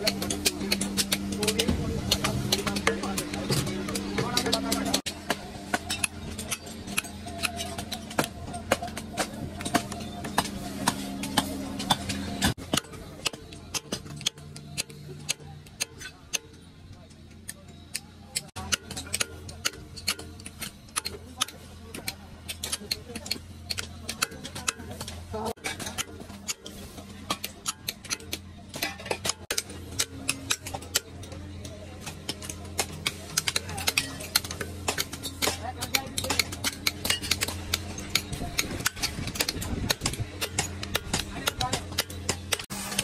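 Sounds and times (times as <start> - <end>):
hammer striking steel chisel: 0.0 - 16.7, 17.4 - 43.0.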